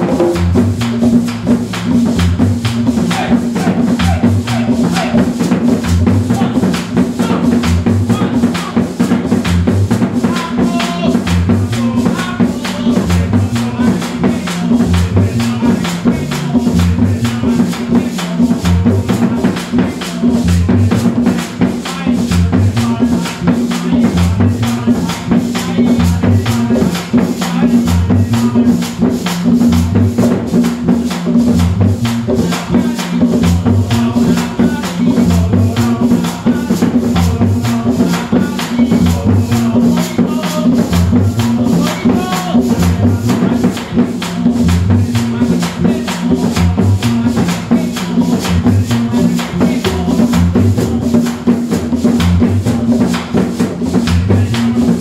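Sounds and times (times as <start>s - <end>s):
drums: 0.0s - 55.0s
rattling hand percussion: 0.0s - 55.0s.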